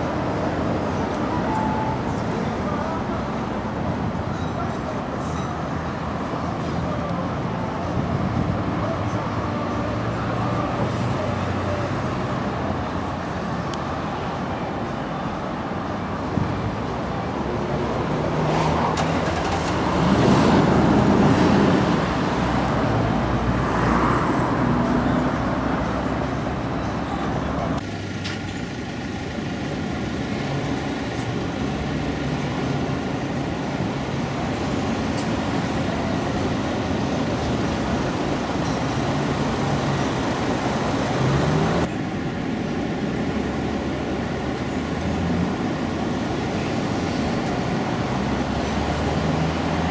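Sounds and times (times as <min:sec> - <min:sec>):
passing cars hum: 0:00.0 - 0:49.9.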